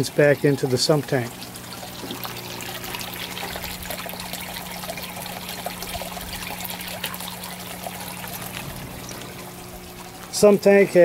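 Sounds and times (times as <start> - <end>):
steady low hum: 0.0 - 11.0
water trickling and splashing: 0.0 - 11.0.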